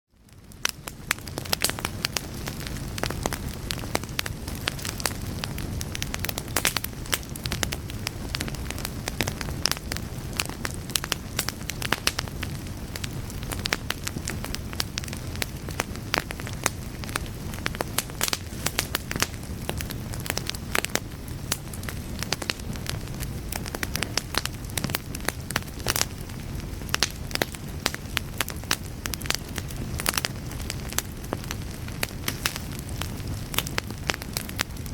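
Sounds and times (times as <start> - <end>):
fire crackling and popping: 0.1 - 34.9
low rumble of flames: 0.1 - 34.9.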